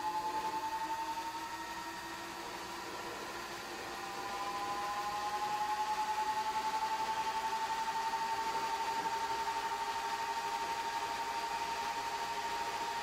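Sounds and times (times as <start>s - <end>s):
heat gun blower: 0.0s - 13.0s
power supply cooling fans whining: 0.0s - 13.0s.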